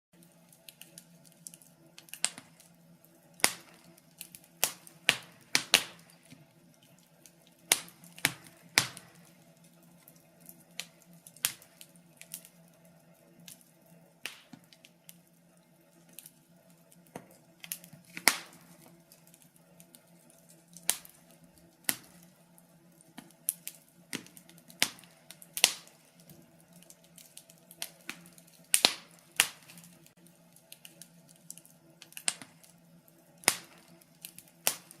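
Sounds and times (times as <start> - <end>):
wood fire crackling: 0.2 - 35.0.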